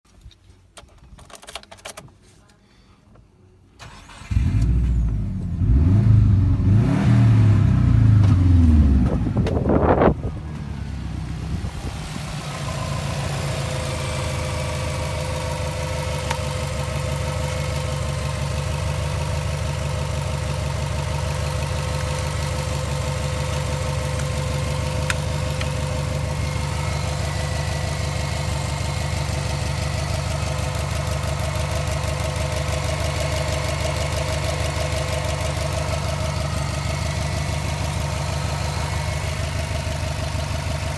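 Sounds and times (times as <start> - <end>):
car engine idling: 3.8 - 40.9
car engine starting and revving: 3.8 - 40.9.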